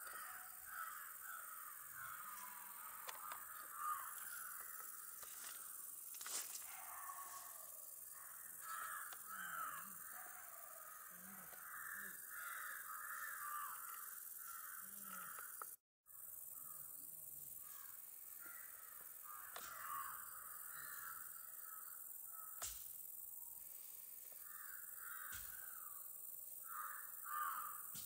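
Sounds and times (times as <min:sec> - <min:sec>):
faint birds calling: 0:00.0 - 0:05.9, 0:06.6 - 0:15.8, 0:17.7 - 0:22.7, 0:24.4 - 0:26.0, 0:26.6 - 0:27.9.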